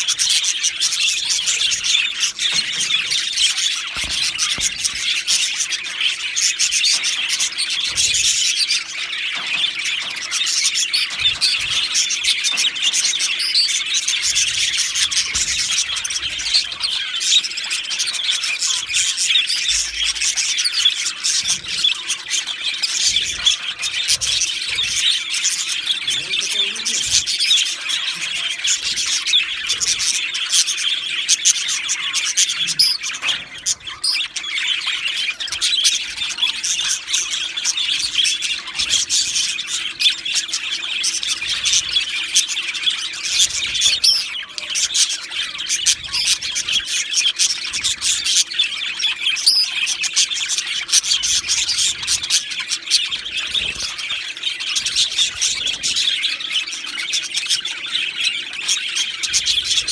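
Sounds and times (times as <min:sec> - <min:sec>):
budgies chirping and chattering: 0:00.0 - 0:59.9.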